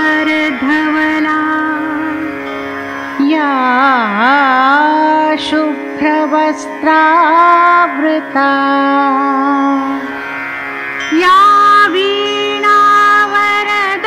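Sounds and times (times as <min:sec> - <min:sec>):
devotional music with sliding notes: 0:00.0 - 0:14.0.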